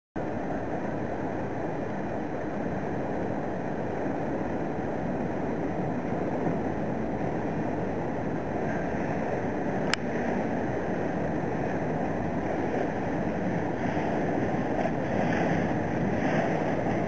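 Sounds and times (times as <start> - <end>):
boat engine running: 0.2 - 17.0
water washing past hull: 0.2 - 17.0.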